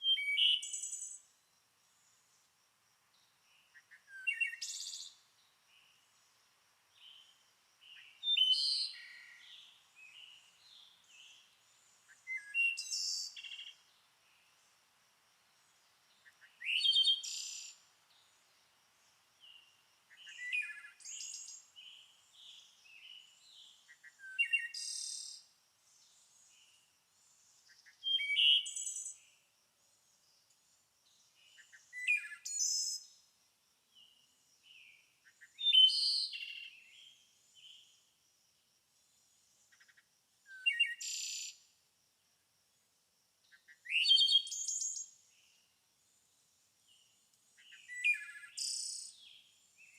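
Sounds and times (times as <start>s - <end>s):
songbirds singing: 0.0s - 14.9s, 15.6s - 33.3s, 33.9s - 38.2s, 39.0s - 41.7s, 43.4s - 49.9s.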